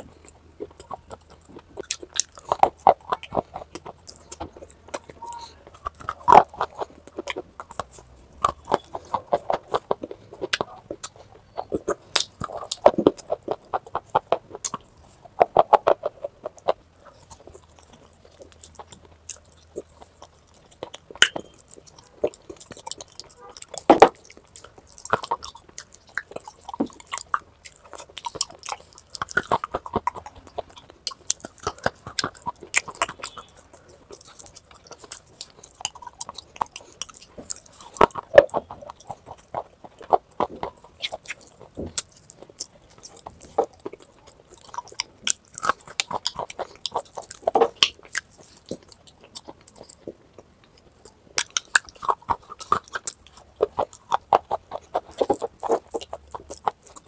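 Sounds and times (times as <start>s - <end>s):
crunching clay pot pieces: 0.0s - 57.0s.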